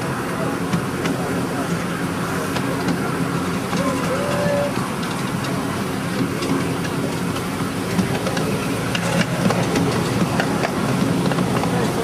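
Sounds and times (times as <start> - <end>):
miniature train humming: 0.0 - 12.0
wheels clicking on rails: 0.0 - 12.0.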